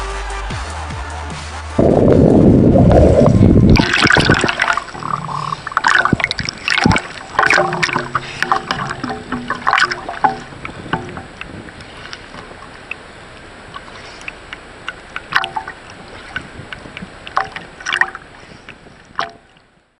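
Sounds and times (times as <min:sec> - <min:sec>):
small waves splashing: 0:03.6 - 0:19.8.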